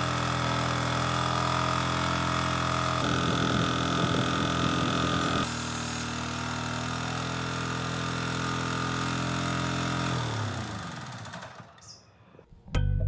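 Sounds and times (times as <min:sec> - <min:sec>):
generator engine running and spinning down: 0:00.0 - 0:12.0.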